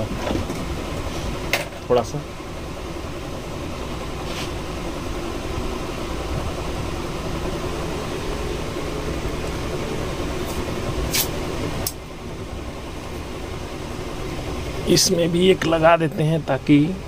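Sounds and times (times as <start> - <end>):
mechanical hum and whir: 0.0 - 17.0.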